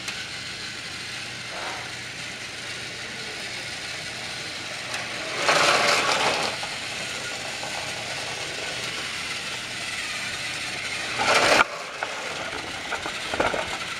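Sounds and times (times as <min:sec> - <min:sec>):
toy train gearbox whirring: 0:00.0 - 0:13.9.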